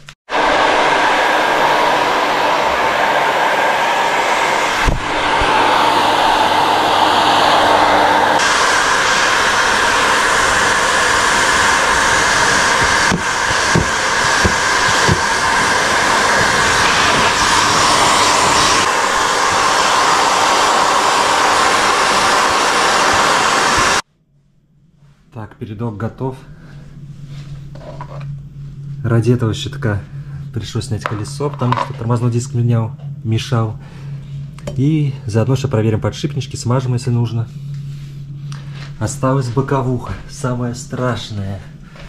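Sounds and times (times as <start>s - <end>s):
hot-air blower running: 0.0s - 24.1s, 26.4s - 42.0s.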